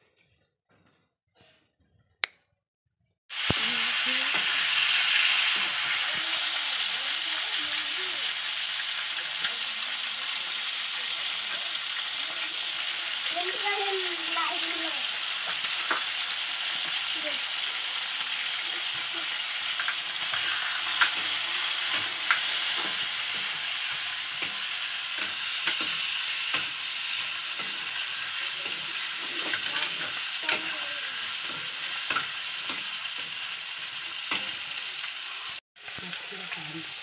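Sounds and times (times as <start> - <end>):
chicken sizzling in a wok: 3.3 - 37.0.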